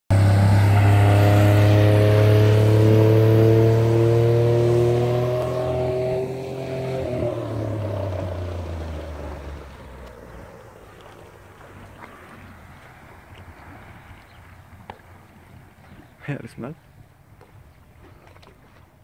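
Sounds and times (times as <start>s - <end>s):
outboard motor accelerating: 0.1s - 19.0s.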